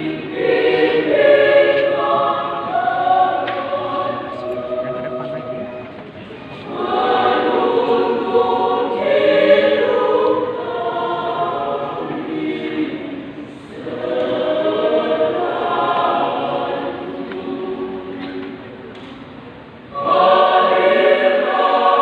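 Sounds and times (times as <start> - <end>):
choir singing: 0.0 - 18.8, 19.8 - 22.0.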